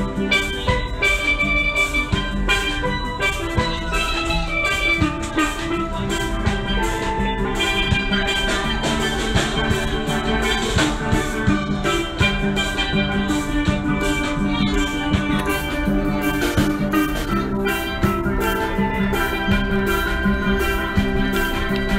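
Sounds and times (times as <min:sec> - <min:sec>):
drums: 0:00.0 - 0:21.9
upbeat steelpan melody: 0:00.0 - 0:21.9.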